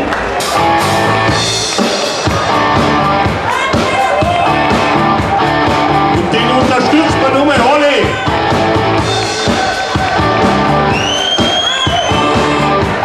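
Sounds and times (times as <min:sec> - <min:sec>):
electric guitar: 0:00.0 - 0:13.0
steady drum beat: 0:00.0 - 0:13.0.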